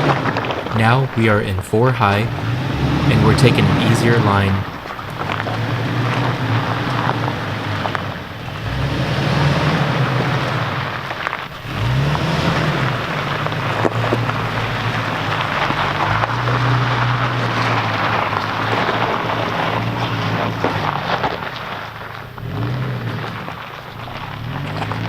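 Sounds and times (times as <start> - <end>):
rough tyre and trail noise: 0.0 - 25.0
truck engine at low revs: 0.0 - 25.0.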